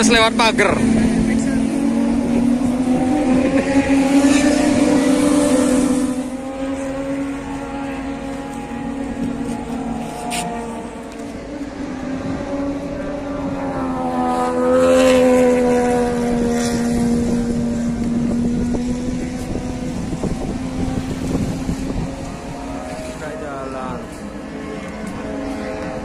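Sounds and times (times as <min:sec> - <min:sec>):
racing motorcycle passing: 0:00.0 - 0:26.0.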